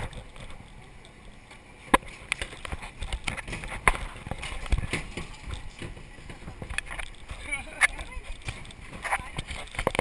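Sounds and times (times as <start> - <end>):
ride car knocking and clacking: 1.9 - 10.0.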